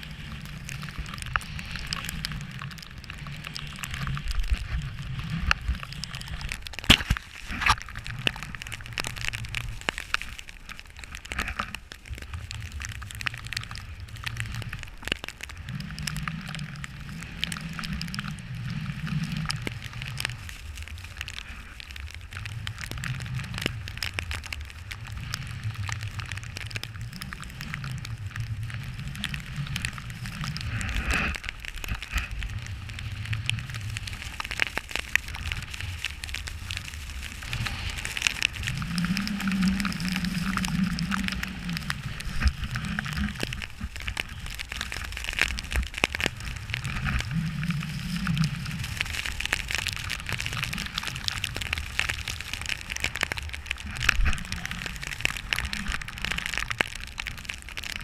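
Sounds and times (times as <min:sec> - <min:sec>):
wind rumble: 0:00.0 - 0:58.0.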